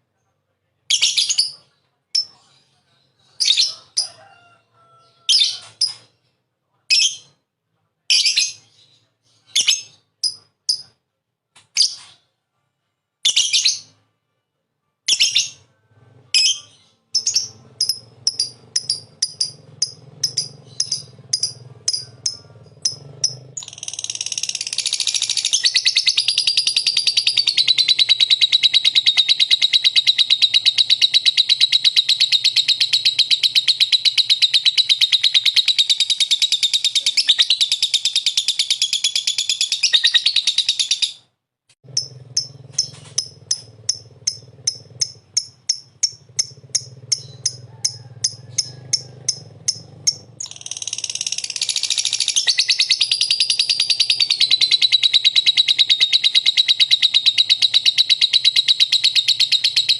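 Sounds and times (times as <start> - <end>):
lovebird chirping and trilling: 0.9 - 1.6, 3.2 - 4.2, 4.9 - 6.1, 6.9 - 7.4, 8.1 - 10.9, 11.8 - 12.2, 13.2 - 14.0, 15.1 - 15.7, 16.3 - 59.9.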